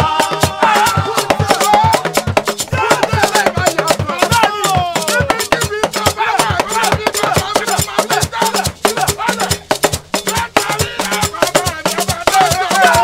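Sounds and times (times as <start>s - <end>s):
group of voices singing: 0.0s - 13.0s
rattling percussion: 0.0s - 13.0s
talking drums: 0.0s - 13.0s.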